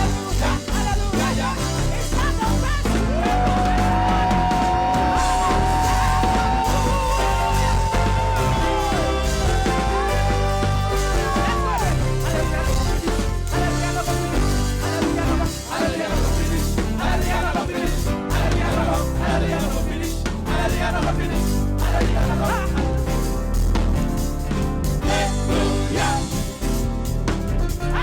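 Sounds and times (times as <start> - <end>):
people singing: 0.0 - 23.4, 24.8 - 27.1, 27.7 - 28.0
live gospel band: 0.0 - 28.0.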